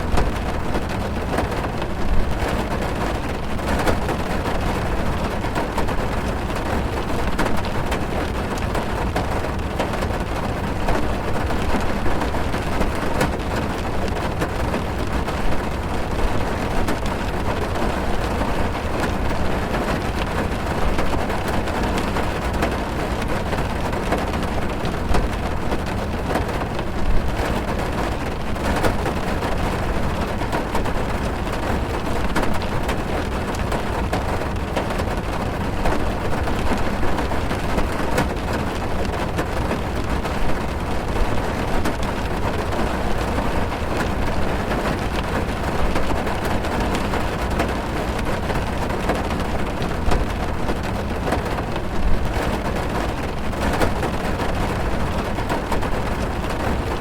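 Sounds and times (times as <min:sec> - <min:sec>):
heavy rain on car roof: 0:00.0 - 0:57.0.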